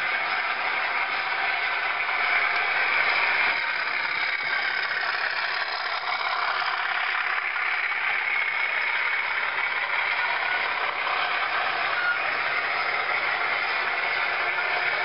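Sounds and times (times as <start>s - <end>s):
diesel engine sound through small speaker: 0.0s - 15.0s
model train running on track: 0.0s - 15.0s.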